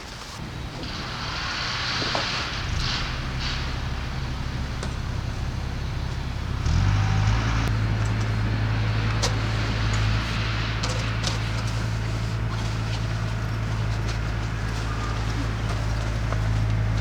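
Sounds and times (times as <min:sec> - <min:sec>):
low steady rumble: 0:00.4 - 0:17.0.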